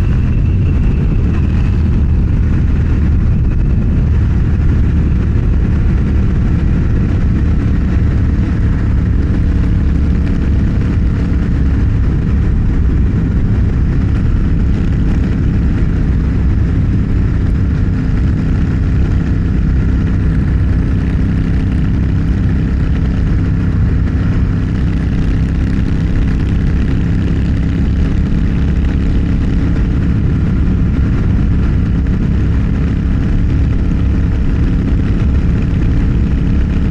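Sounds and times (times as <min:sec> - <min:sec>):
motorcycle engine cruising: 0:00.0 - 0:36.9
road and wind noise: 0:00.0 - 0:36.9.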